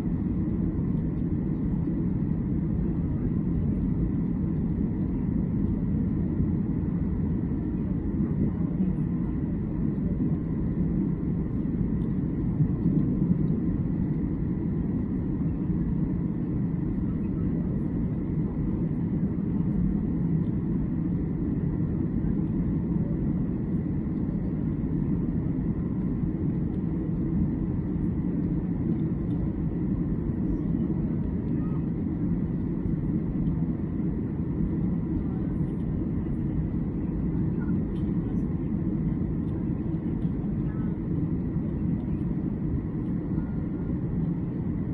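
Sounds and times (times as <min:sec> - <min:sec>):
engine and airflow rumble: 0:00.0 - 0:44.9
faint steady hum: 0:00.0 - 0:44.9.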